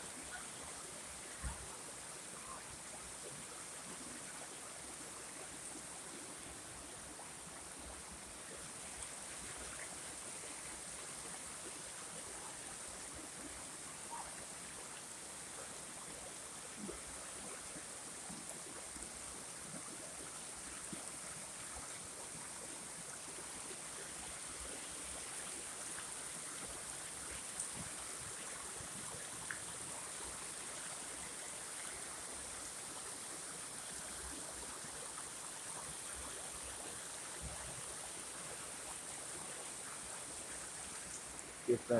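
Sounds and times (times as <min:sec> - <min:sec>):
stream flowing: 0:00.0 - 0:41.9.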